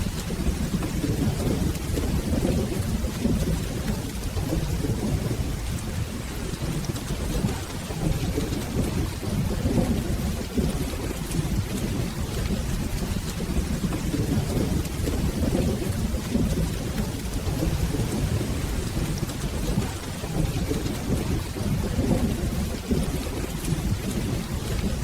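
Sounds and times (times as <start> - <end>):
rolling thunder rumble: 0.0 - 25.0
steady rain: 0.0 - 25.0.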